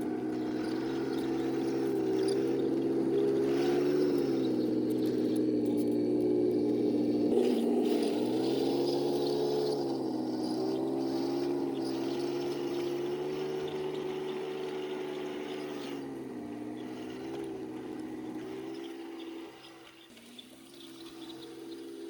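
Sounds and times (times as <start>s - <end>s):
model tank motors whining: 0.0s - 22.0s.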